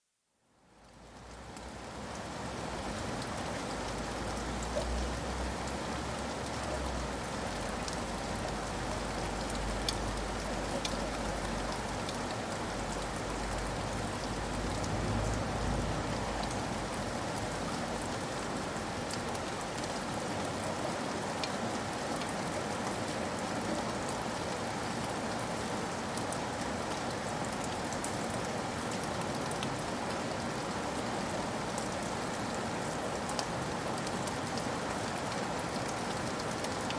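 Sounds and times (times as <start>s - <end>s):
heavy rain falling: 0.8s - 36.9s.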